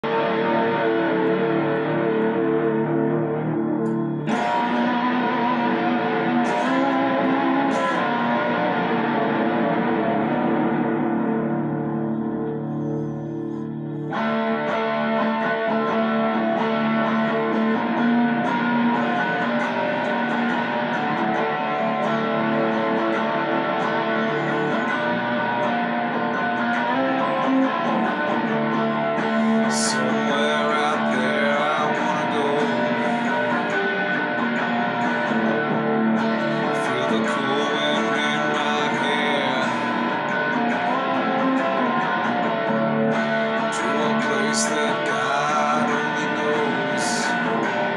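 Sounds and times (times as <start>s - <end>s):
electric guitar strumming chords: 0.0s - 47.9s.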